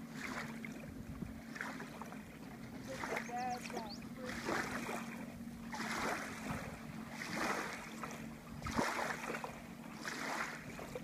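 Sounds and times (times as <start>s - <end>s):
water sloshing: 0.0s - 11.0s
wave runner engine idling: 0.0s - 11.0s.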